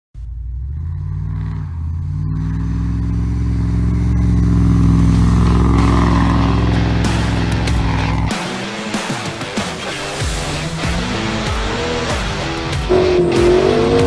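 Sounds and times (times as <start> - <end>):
atv engine revving: 0.2 - 14.0.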